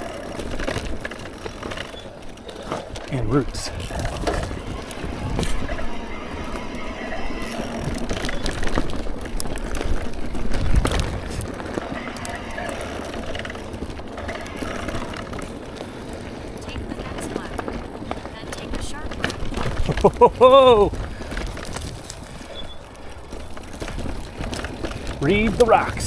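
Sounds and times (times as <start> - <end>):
bike knocking on rocks: 0.0 - 26.0
bike rattling: 0.0 - 26.0.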